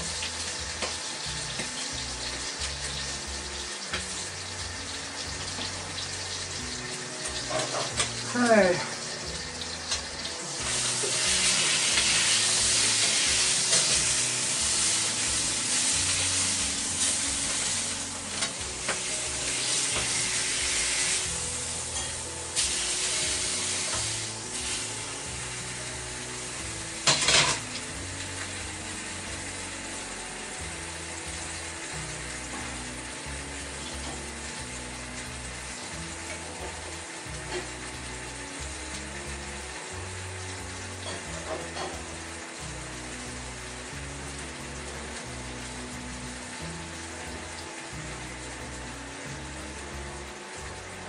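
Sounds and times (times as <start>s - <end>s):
meat sizzling in a wok: 0.0s - 51.0s.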